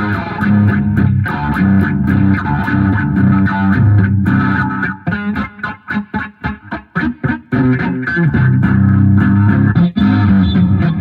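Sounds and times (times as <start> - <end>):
guitar and bass music: 0.0 - 11.0.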